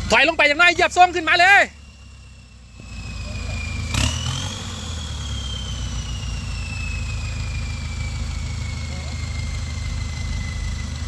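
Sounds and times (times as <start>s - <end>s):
off-road vehicle engine running: 0.0s - 11.0s
high whine falling in pitch: 0.1s - 11.0s.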